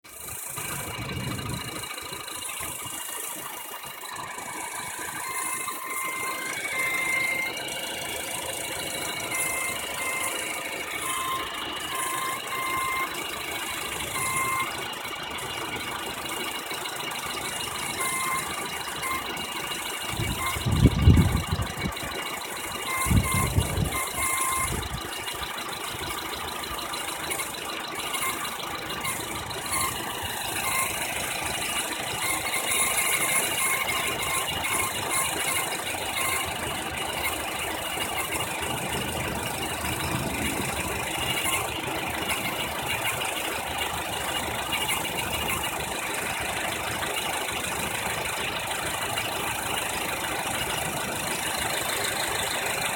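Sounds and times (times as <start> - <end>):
car engine running: 0.0 - 52.9
high-pitched engine whine: 0.1 - 52.9.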